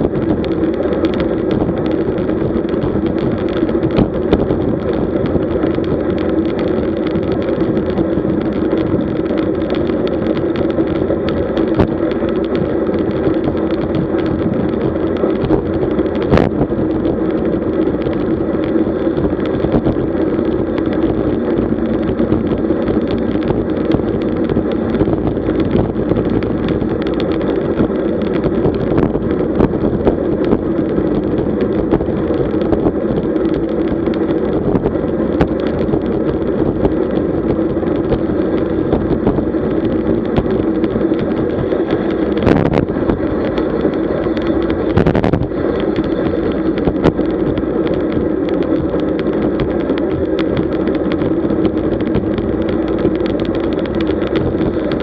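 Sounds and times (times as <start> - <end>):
bicycle tyres rolling: 0.0 - 55.0
wind rush: 0.0 - 55.0.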